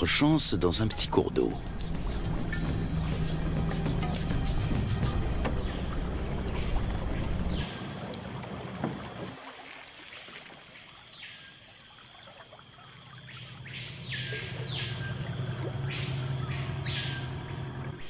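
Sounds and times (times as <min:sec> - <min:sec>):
outboard motor humming: 0:00.0 - 0:18.0
rainforest ambience: 0:00.0 - 0:18.0.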